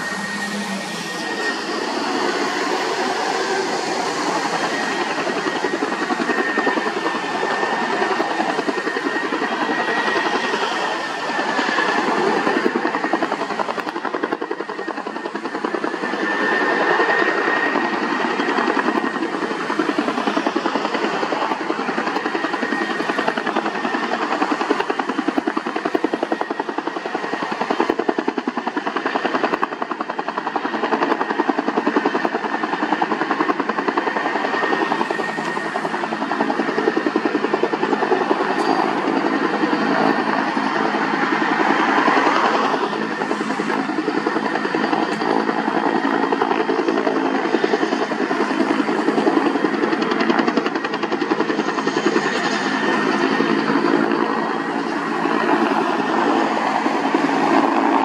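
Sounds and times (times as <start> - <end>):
helicopter rotor blades beating: 0.0 - 58.0
high turbine whine: 0.0 - 58.0.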